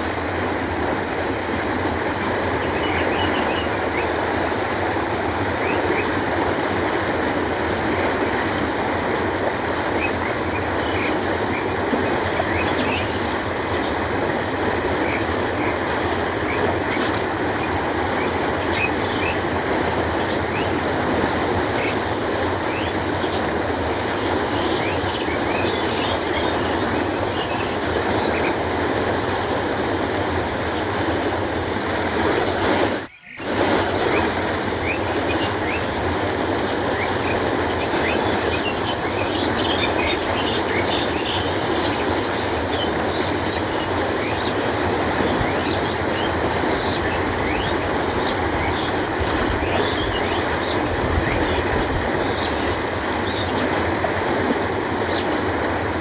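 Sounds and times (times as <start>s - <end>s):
canal water rushing: 0.0s - 56.0s.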